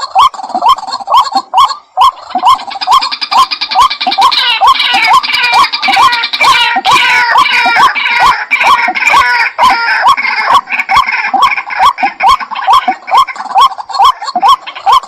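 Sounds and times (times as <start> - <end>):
bird rough repeated call: 0.0 - 15.0.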